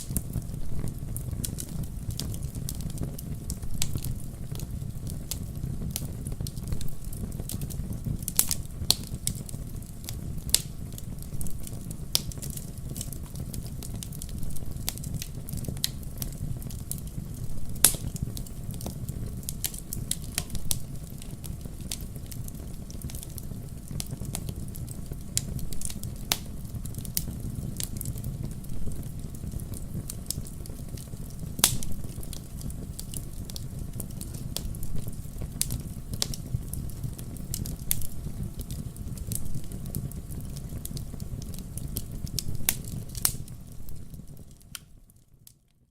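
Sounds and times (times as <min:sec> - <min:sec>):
campfire crackling: 0:00.0 - 0:45.6.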